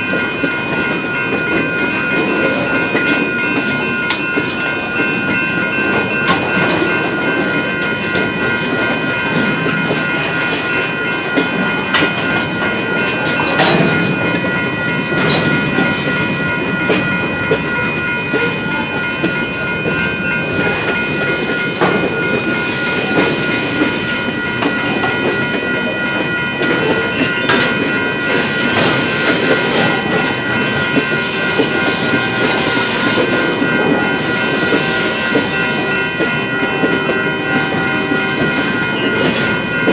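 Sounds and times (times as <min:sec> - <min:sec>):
crossing bell ringing: 0:00.0 - 0:39.9
freight train wheels clacking: 0:00.0 - 0:39.9.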